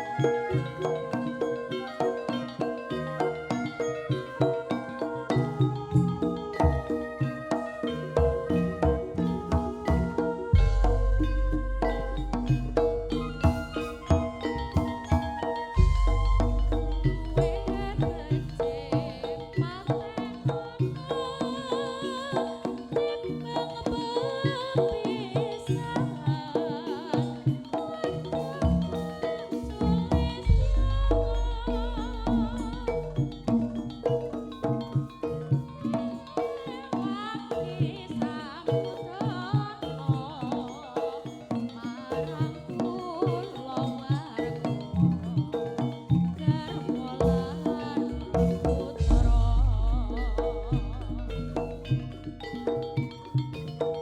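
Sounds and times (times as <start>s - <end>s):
high wavering melody: 0.0s - 22.3s, 27.8s - 54.0s
hand drum strokes: 0.0s - 54.0s
ringing tuned metal percussion: 0.0s - 54.0s.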